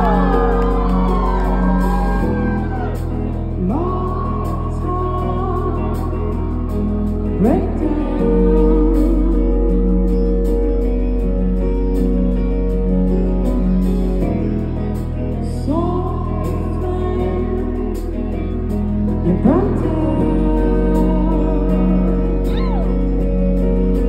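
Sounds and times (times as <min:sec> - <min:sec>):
live rock band playing: 0:00.0 - 0:24.0
person singing: 0:00.0 - 0:24.0.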